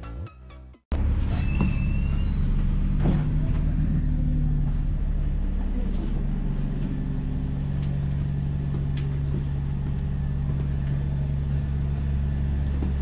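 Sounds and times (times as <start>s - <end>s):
bus engine drone: 0.9s - 13.0s.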